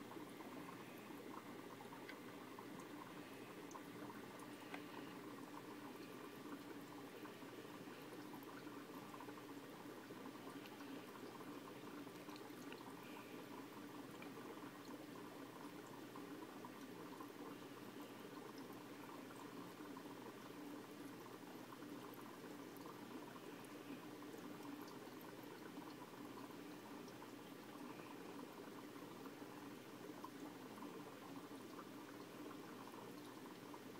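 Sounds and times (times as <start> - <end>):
aquarium water bubbling: 0.0 - 33.9.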